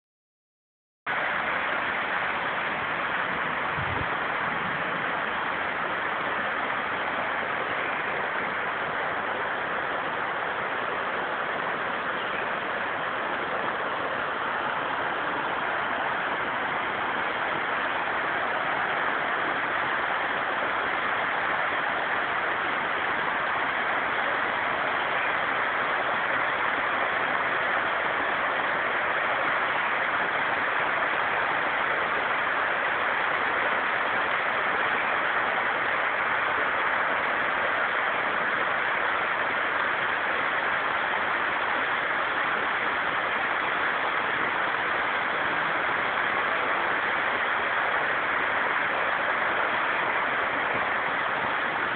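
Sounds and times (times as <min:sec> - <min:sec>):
waterfall rushing: 0:01.1 - 0:51.9.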